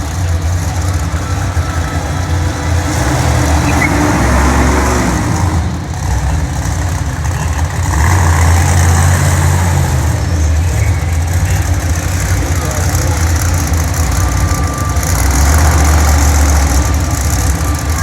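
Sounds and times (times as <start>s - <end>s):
truck engine running loudly: 0.0s - 18.0s.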